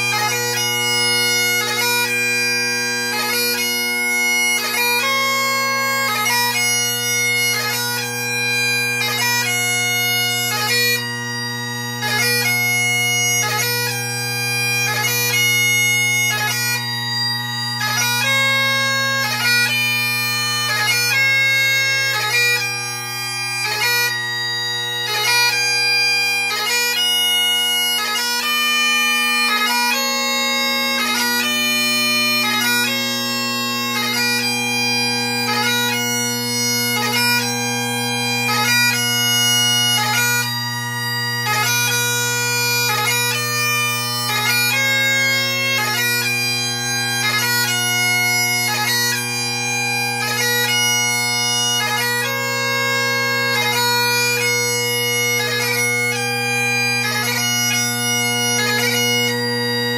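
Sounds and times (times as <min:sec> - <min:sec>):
bagpipe chanter melody: 0:00.0 - 0:59.9
bagpipe drones: 0:00.0 - 0:59.9.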